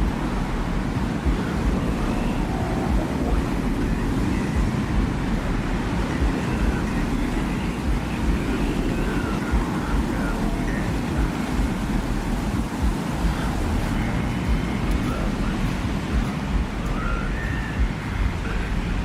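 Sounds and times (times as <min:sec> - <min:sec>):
faint high whistling tones: 0:00.0 - 0:19.0
low rumbling wind: 0:00.0 - 0:19.0.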